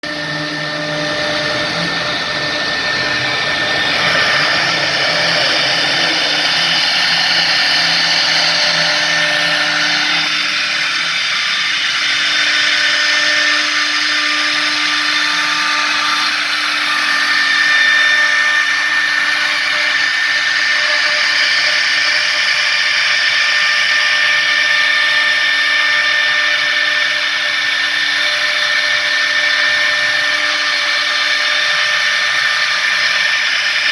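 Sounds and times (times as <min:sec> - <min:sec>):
router spindle running: 0:00.0 - 0:33.9.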